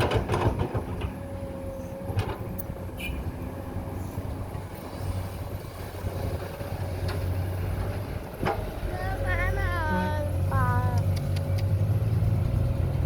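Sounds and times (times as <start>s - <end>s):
engine running with whine: 0.0s - 13.0s.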